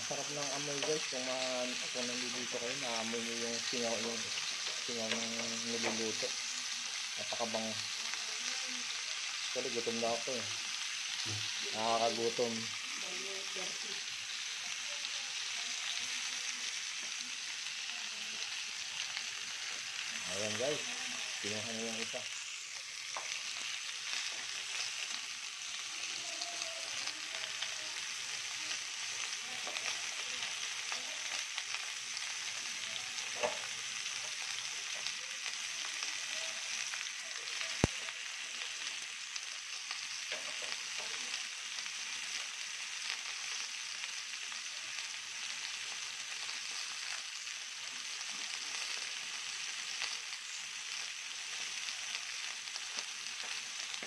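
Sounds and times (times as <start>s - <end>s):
steaks sizzling in skillet: 0.0s - 54.0s.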